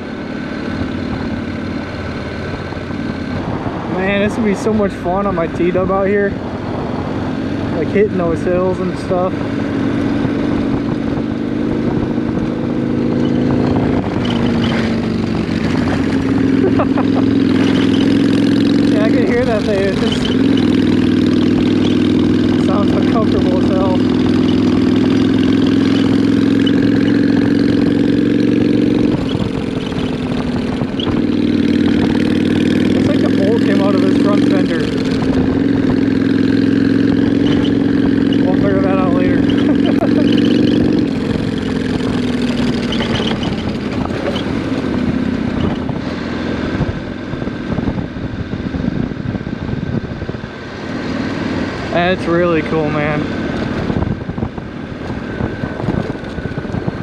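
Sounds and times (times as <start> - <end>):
motorcycle engine running: 0.0 - 57.0
wind noise on microphone: 0.7 - 57.0.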